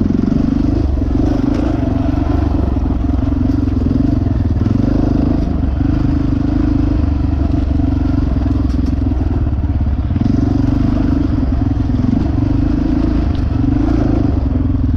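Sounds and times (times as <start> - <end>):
dirt bike engine running: 0.0 - 14.9.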